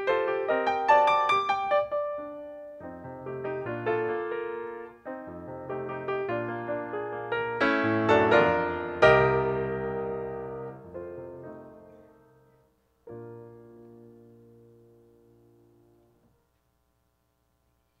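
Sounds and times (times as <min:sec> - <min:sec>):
piano chords: 0:00.0 - 0:16.3.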